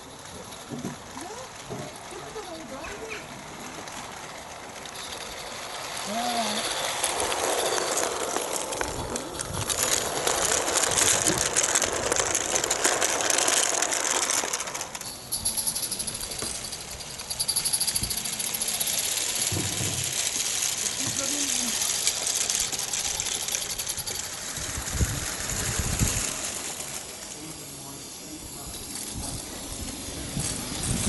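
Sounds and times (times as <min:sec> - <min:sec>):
model train wheels rattling on rails: 0:00.0 - 0:31.0.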